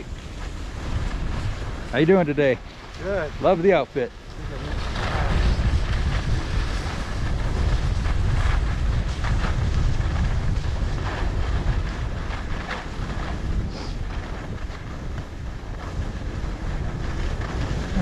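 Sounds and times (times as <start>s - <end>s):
skis hissing over packed snow: 0.0s - 18.0s
wind buffeting microphone: 0.0s - 18.0s.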